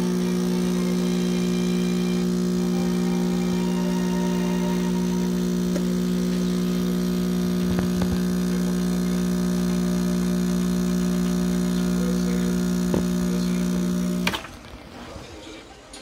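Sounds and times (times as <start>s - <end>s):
espresso machine pump humming: 0.0s - 14.5s.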